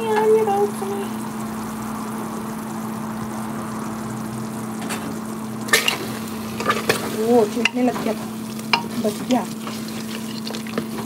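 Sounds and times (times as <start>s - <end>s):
curry sizzling in a pot: 0.0s - 11.0s
steady hum: 0.0s - 11.0s.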